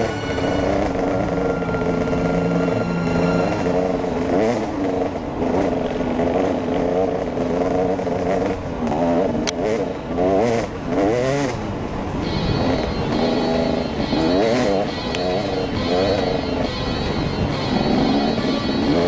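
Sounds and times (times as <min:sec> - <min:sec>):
off-road motorcycle revving: 0:00.0 - 0:19.0.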